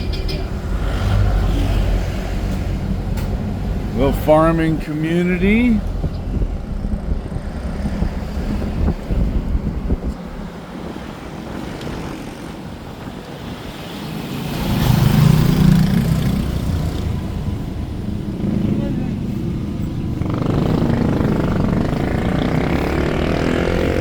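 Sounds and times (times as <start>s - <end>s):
vehicle road rumble: 0.0s - 24.0s
wind: 0.0s - 24.0s.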